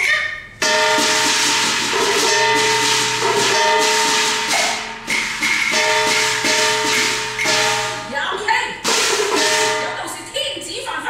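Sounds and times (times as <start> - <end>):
held instrumental notes: 0.0 - 10.3
clashing metal percussion: 0.5 - 10.6.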